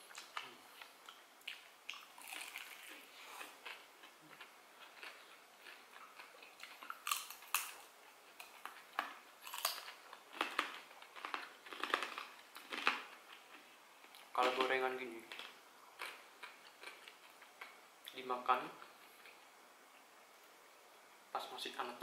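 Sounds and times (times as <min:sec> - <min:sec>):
crunching and chewing fried snacks: 0:00.1 - 0:17.8.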